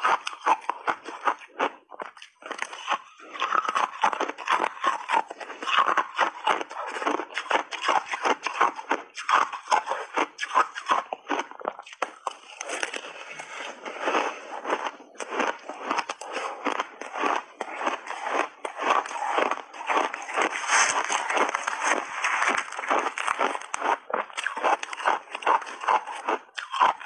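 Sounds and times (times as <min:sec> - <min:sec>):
ice crunching between teeth: 0:00.0 - 0:27.0.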